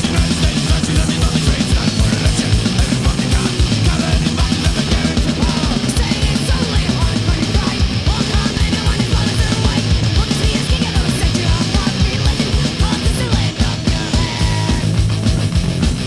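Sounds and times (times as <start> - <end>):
distorted guitar: 0.0 - 16.0
fast drumming: 0.0 - 16.0
punk rock band playing: 0.0 - 16.0.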